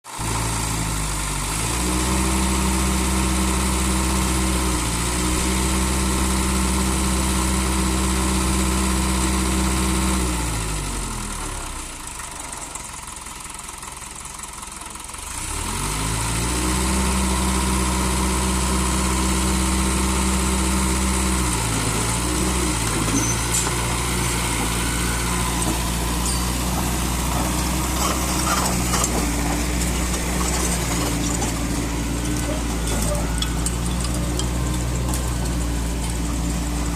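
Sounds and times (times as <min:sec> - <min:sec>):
diesel engine revving: 0:00.1 - 0:12.8, 0:15.1 - 0:36.9.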